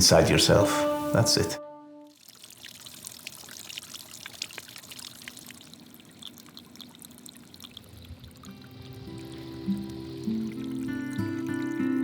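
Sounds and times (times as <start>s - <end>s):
water drips and plinks: 2.1s - 12.0s
water trickling and splashing: 2.1s - 12.0s.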